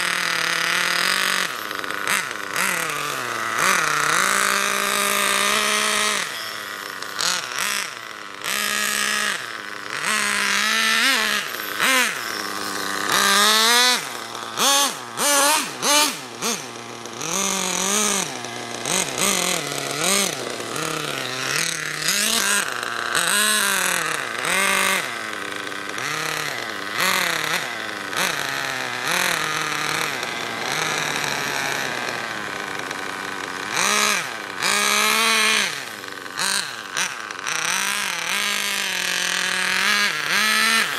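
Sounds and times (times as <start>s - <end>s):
rc car engine revving: 0.0s - 40.9s
short loud throttle blips: 0.0s - 40.9s.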